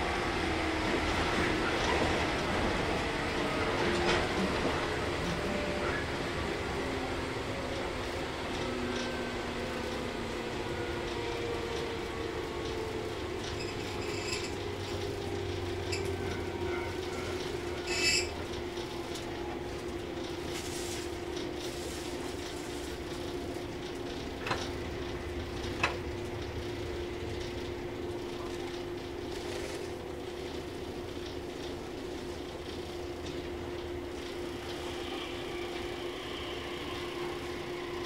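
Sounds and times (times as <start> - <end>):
electric train running rumble: 0.0 - 38.0.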